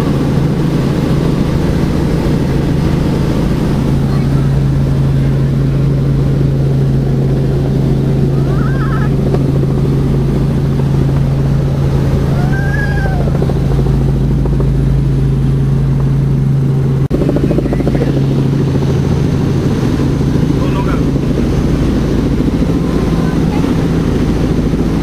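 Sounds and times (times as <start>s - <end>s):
helicopter engine and rotors: 0.0s - 25.0s.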